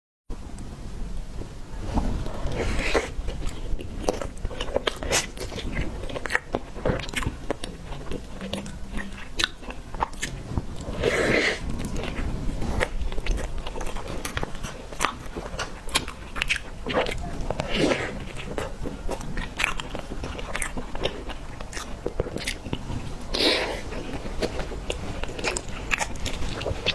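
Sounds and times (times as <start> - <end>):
biting and chewing: 2.0 - 26.9.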